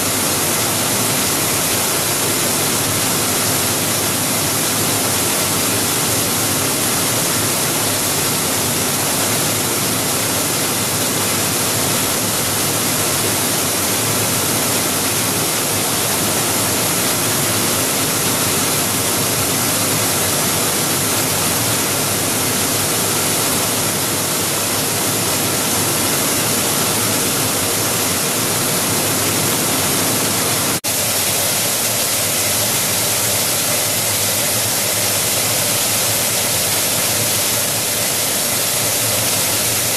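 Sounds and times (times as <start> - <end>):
machine hiss and hum: 0.0 - 39.9.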